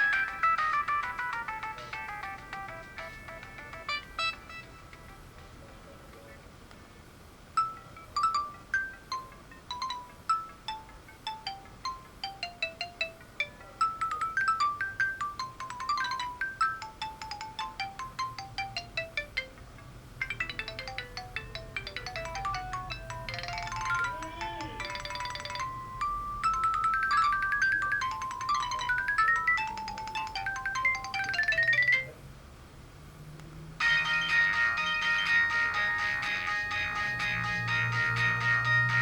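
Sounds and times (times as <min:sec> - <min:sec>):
phone ringtone melody: 0:00.0 - 0:05.6, 0:07.6 - 0:32.2, 0:33.8 - 0:39.0.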